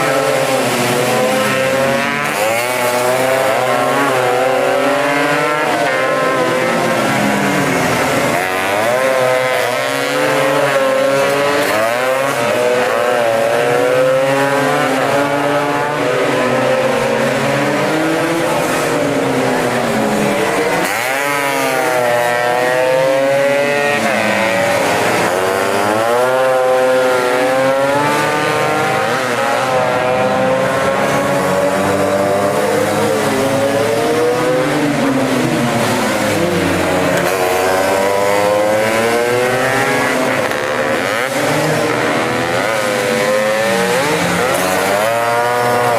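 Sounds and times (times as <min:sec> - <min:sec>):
racing scooters revving: 0:00.0 - 0:45.9.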